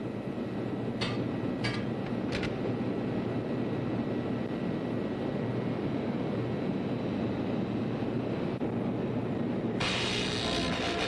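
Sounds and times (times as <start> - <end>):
machinery low drone: 0.0 - 11.0.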